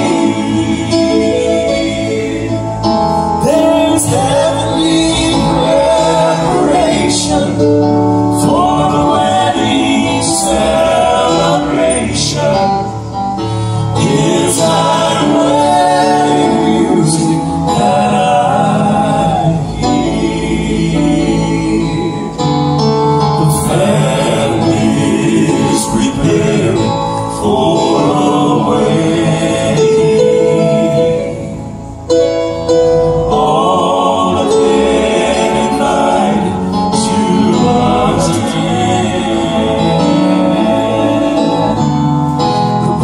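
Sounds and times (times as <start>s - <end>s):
male quartet singing in harmony: 0.0s - 43.0s
piano accompaniment: 0.0s - 43.0s.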